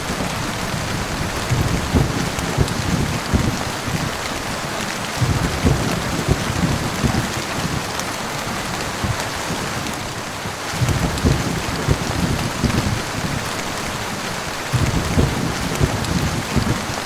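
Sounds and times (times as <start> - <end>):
heavy rain hissing: 0.0 - 17.0
low thunder rumble: 0.0 - 17.0.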